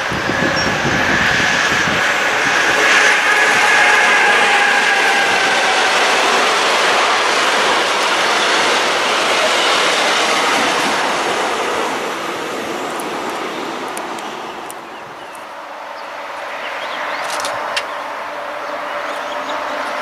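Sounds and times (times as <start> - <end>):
train passing rushing: 0.0 - 20.0.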